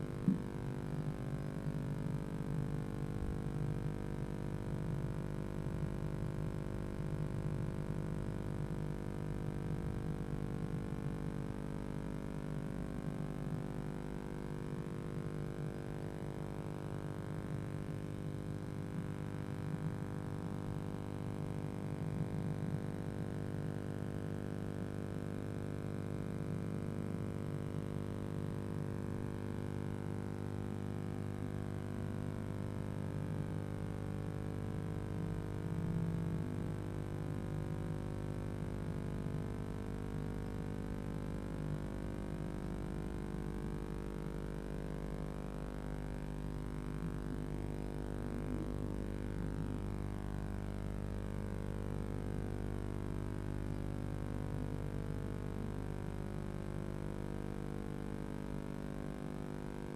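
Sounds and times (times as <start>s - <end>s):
electrical hum and buzz: 0.0s - 59.9s.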